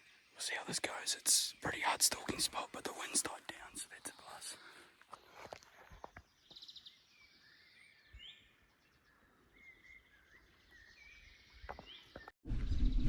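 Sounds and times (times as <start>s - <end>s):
faint outdoor bush ambience: 0.0s - 13.0s.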